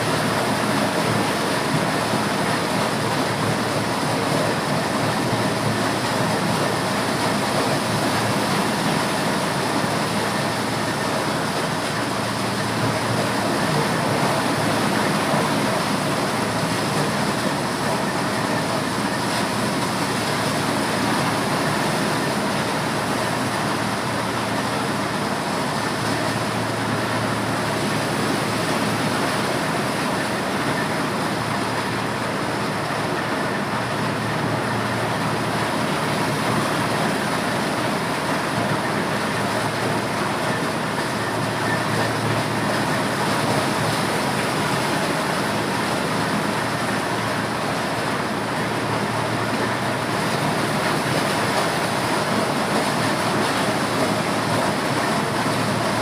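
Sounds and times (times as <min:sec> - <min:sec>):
motorized corn sheller running: 0:00.0 - 0:56.0.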